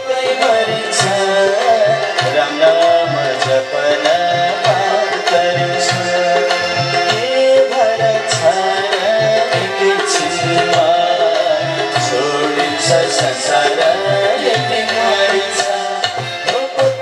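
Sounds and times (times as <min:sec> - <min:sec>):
harmonium and keyboard melody: 0:00.0 - 0:17.0
tabla rhythm: 0:00.0 - 0:17.0.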